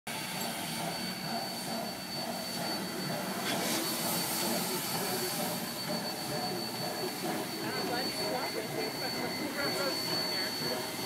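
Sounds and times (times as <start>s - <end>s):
steam locomotive hissing: 0.1s - 11.0s
thin steady high tone: 0.1s - 11.0s.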